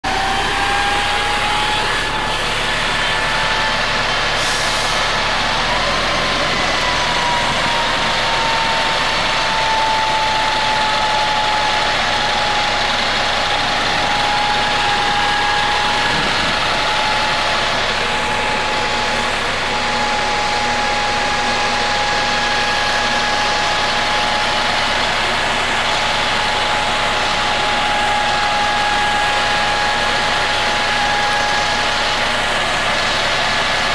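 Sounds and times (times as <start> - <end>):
bus engine idling: 0.0 - 33.9
high-pitched whine: 0.0 - 33.9.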